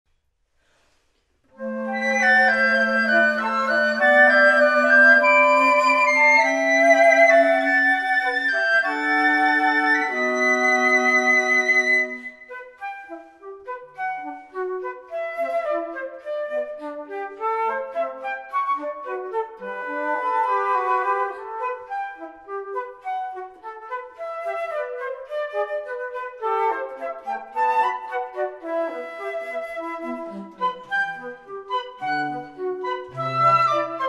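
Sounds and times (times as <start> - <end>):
flute quartet playing: 1.5 - 34.0.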